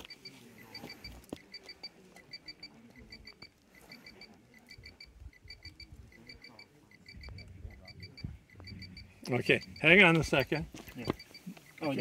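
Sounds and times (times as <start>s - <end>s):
short high electronic beeps: 0.0s - 12.0s.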